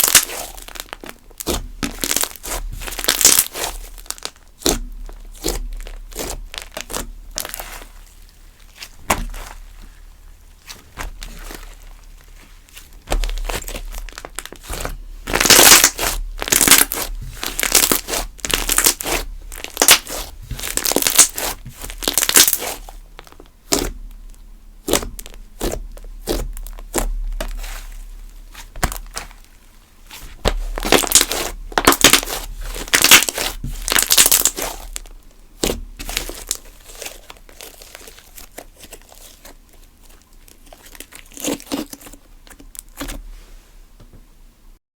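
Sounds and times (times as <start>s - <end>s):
slime crackling and popping: 0.0s - 43.2s.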